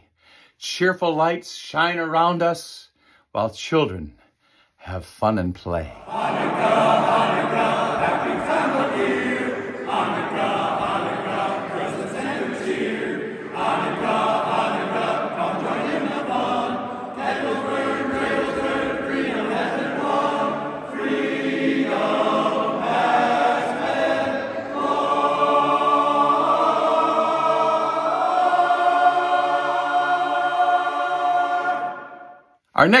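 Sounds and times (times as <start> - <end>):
a cappella chorus singing: 6.0 - 32.5.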